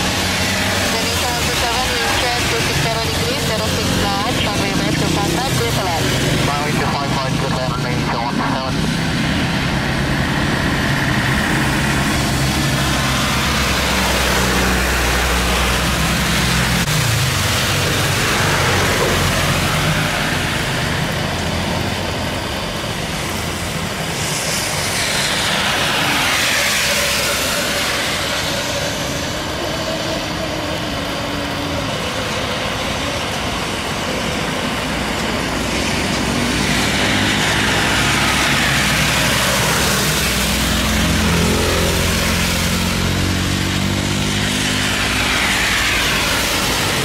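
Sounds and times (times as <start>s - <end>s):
heavy rain: 0.0s - 47.0s
jet engines droning: 0.0s - 47.0s.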